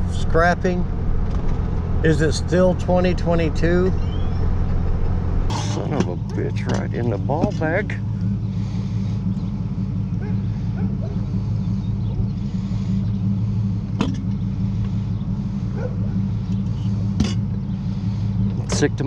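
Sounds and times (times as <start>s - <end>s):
vehicle rumble from inside: 0.0s - 19.0s.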